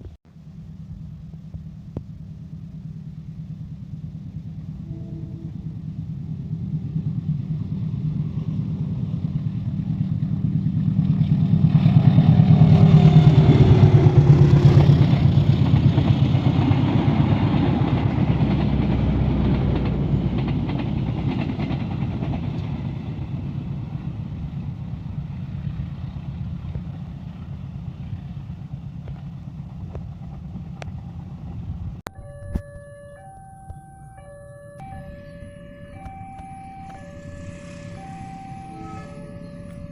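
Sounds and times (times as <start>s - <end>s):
diesel locomotive passing: 0.4s - 32.0s, 33.0s - 39.9s.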